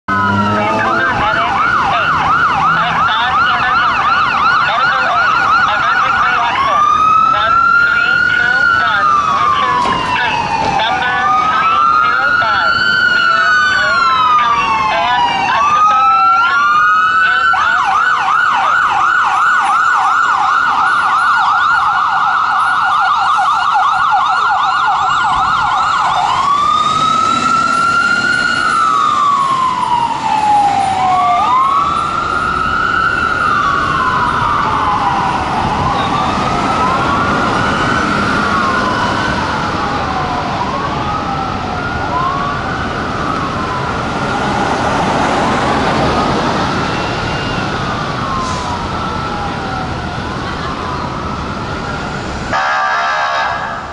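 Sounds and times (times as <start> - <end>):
fire engine siren: 0.1 - 53.9.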